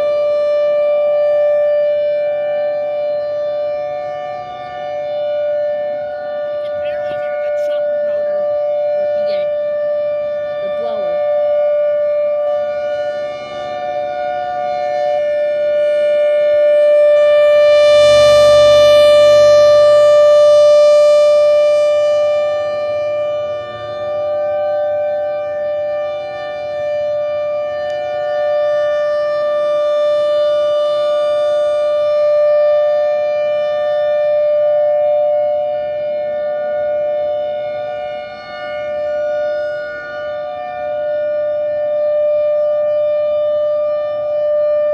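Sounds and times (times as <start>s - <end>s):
rotating warning siren steady tone: 0.0s - 44.9s.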